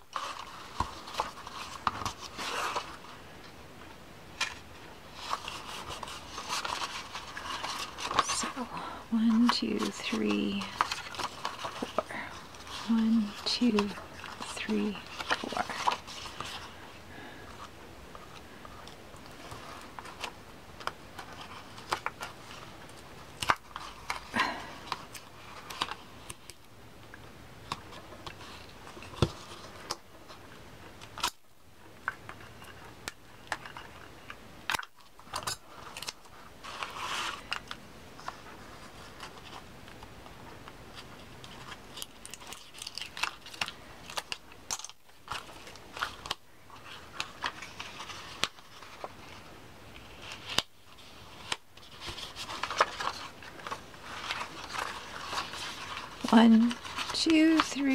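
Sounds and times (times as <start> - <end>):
paper rustling and crinkling: 0.0 - 57.9.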